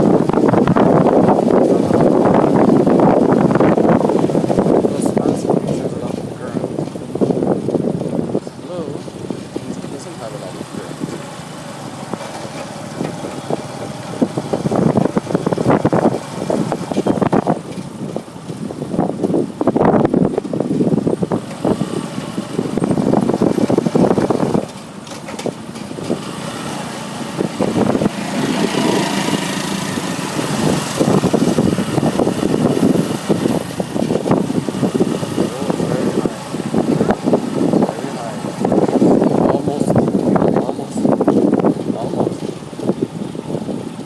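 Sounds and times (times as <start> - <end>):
motorcycles and cars passing: 0.0 - 44.0.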